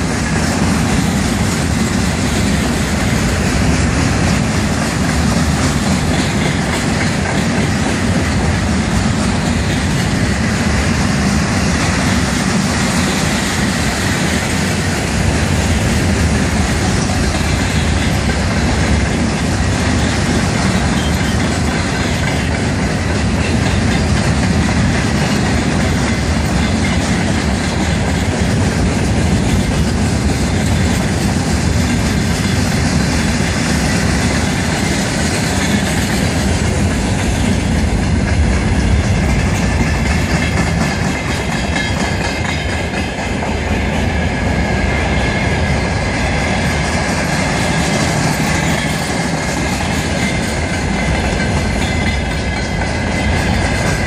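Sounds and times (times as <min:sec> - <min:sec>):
freight train rolling on rails: 0:00.0 - 0:54.0.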